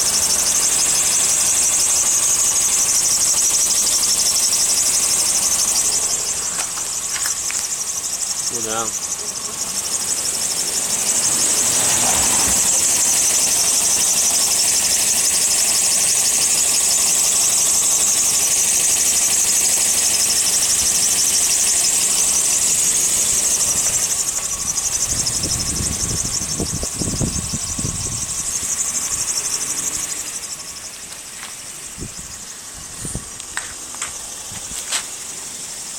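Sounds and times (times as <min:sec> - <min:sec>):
car engine running: 0:00.0 - 0:35.9
drive belt squealing: 0:00.0 - 0:35.9.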